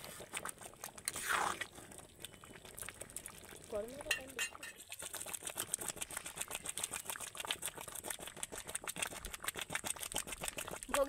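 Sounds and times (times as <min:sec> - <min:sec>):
thick stew bubbling and popping: 0:00.0 - 0:11.0.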